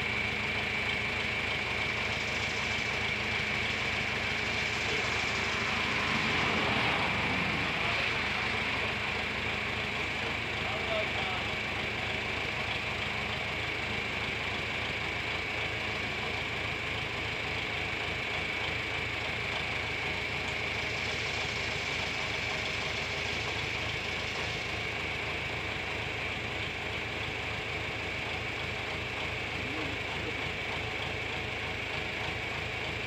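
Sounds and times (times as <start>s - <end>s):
tractor engine idling: 0.0s - 33.0s.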